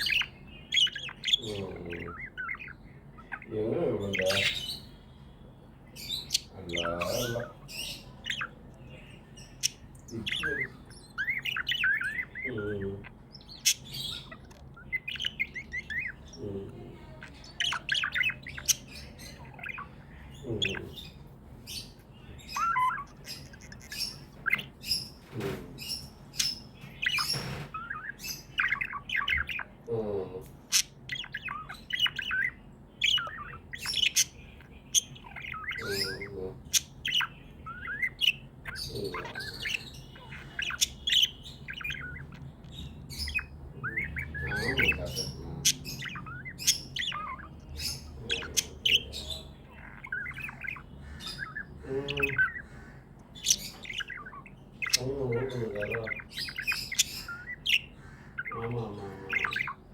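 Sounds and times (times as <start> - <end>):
budgies chirping and squawking: 0.0 - 59.9.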